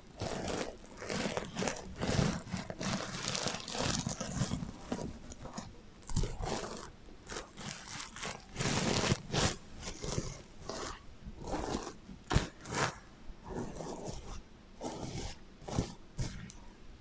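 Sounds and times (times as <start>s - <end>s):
fingers scratching sequins: 0.0s - 16.6s.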